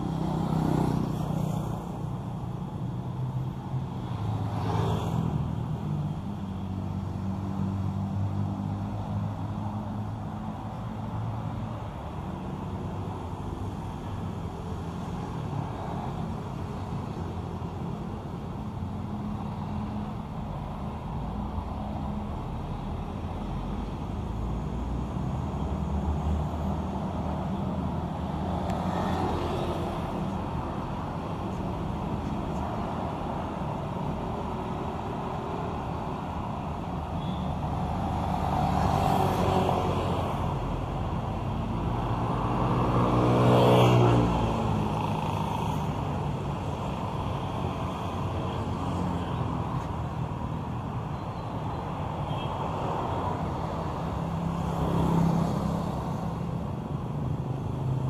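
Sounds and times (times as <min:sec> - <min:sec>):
hum of vehicle engines: 0:00.0 - 0:58.0
vehicles passing by: 0:00.0 - 0:58.0.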